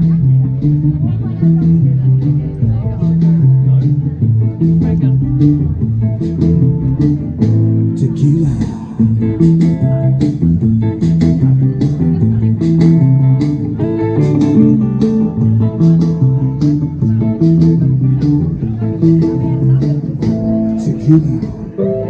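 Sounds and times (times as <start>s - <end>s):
bluesy guitar with bass line: 0.0s - 22.0s.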